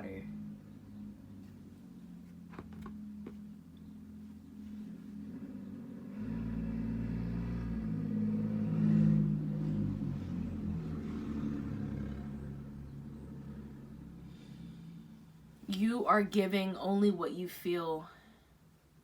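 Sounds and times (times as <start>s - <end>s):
passing motor vehicle rumble: 0.0s - 16.2s.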